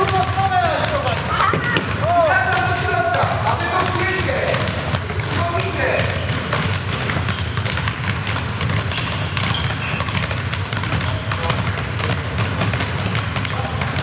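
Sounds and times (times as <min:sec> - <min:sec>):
footballs bouncing on hall floor: 0:00.0 - 0:14.0.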